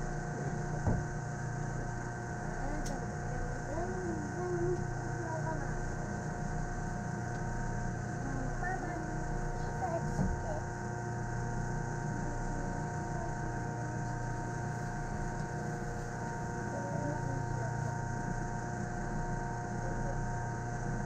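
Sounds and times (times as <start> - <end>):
electrical equipment whining: 0.0 - 21.0
train interior low drone: 0.0 - 21.0.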